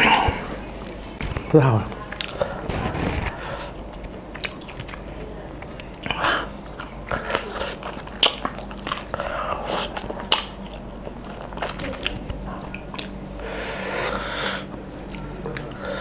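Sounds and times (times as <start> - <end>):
person chewing meat: 2.0 - 16.0.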